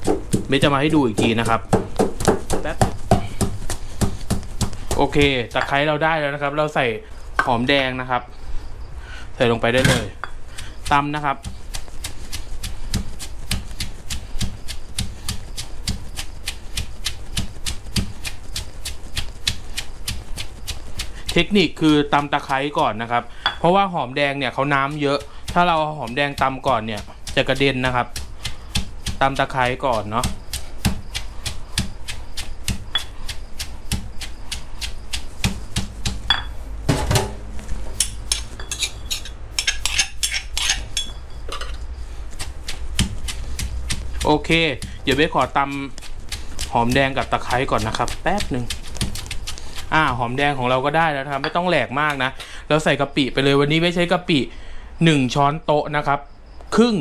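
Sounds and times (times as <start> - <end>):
pestle pounding in stone mortar: 0.0 - 6.0, 9.7 - 53.8.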